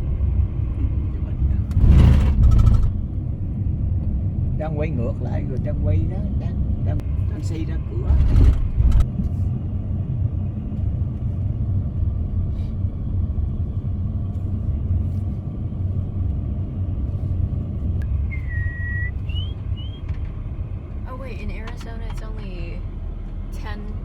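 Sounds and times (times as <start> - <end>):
car road rumble inside cabin: 0.0 - 24.0.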